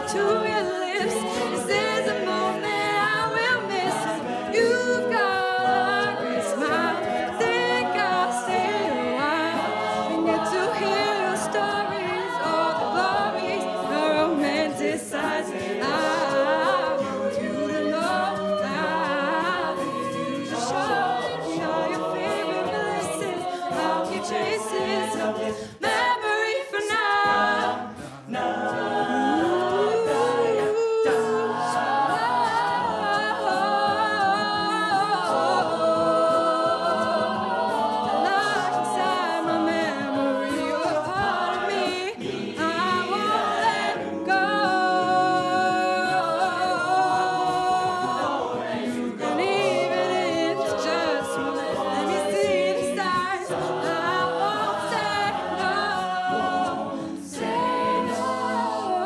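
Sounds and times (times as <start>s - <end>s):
backing vocal harmonies: 0.0s - 59.0s
lead voice singing: 0.0s - 59.0s
vocal percussion beat: 0.0s - 59.0s.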